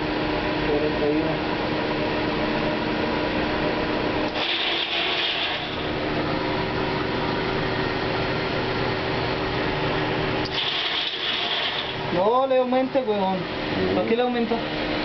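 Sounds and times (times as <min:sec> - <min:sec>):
grain dryer droning: 0:00.0 - 0:15.0.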